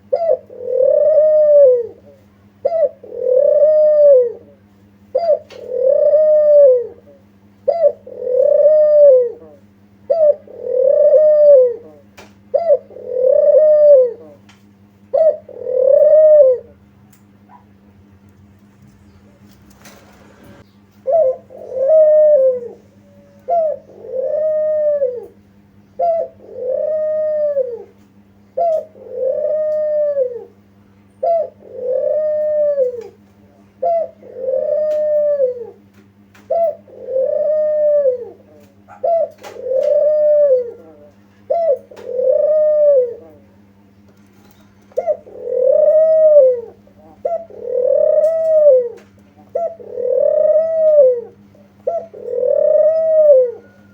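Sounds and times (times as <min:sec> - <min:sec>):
dove cooing: 0:00.0 - 0:18.0, 0:18.8 - 0:53.9
low electrical hum: 0:00.0 - 0:53.9.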